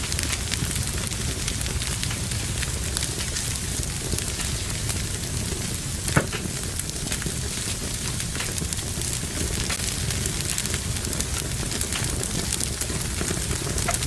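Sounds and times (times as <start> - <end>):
fire pop: 0.0 - 14.0
low rumble of flames: 0.0 - 14.0
wood fire crackling: 0.0 - 14.0.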